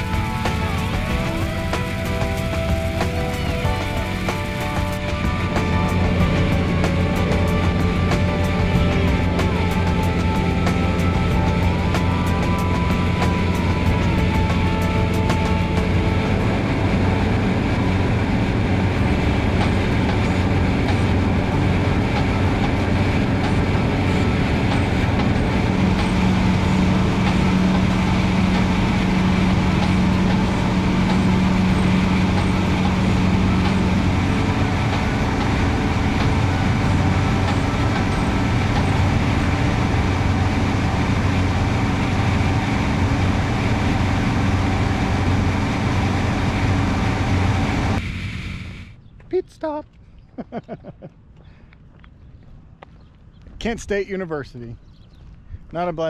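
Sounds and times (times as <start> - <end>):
airplane engine droning in cockpit: 0.0 - 49.1
higher steady hum: 0.0 - 49.8.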